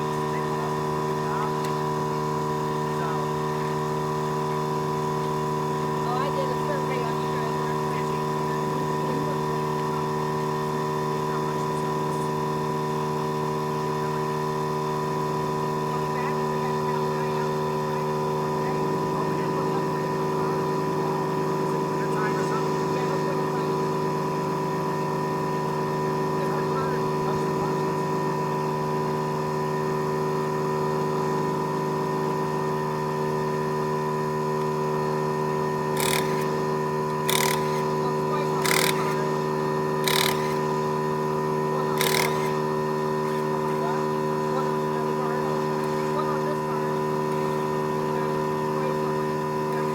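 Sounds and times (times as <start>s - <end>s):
motor humming steadily: 0.0s - 49.9s.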